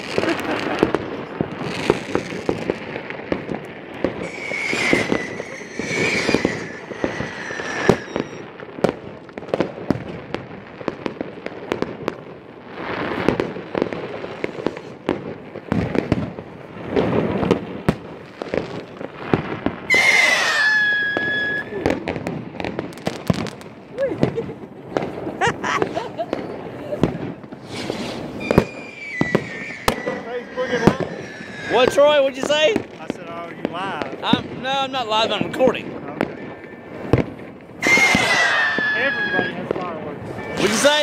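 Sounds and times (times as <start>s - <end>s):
whistling rockets: 0.0s - 10.3s, 13.0s - 34.4s, 35.2s - 41.0s
fireworks bangs and cracks: 0.0s - 41.0s.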